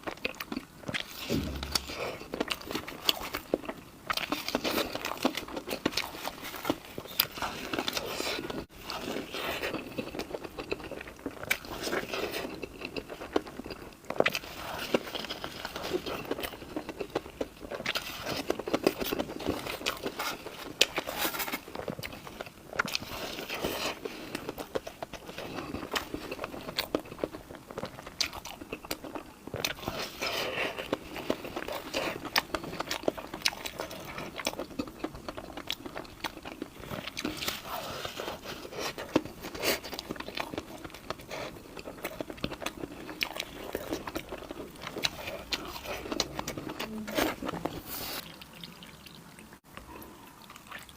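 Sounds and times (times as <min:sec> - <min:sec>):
chewing crunchy food: 0:00.0 - 0:50.9.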